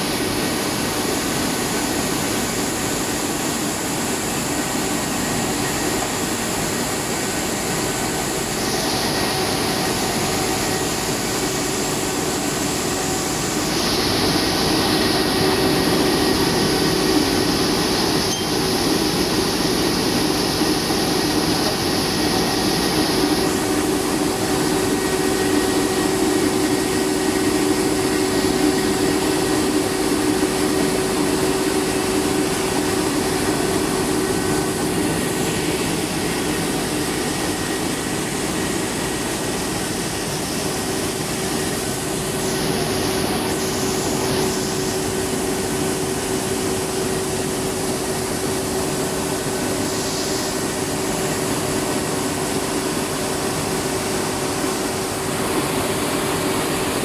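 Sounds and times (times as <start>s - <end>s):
milling machinery whirring: 0.0s - 57.0s.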